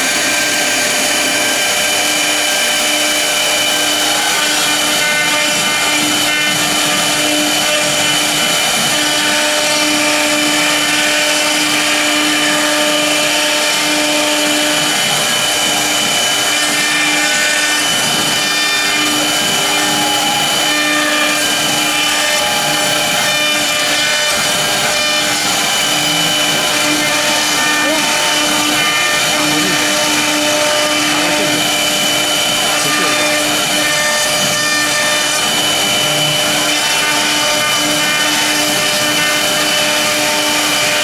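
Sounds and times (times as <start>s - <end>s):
router bits cutting board: 0.0s - 41.0s
router spindle whine: 0.0s - 41.0s.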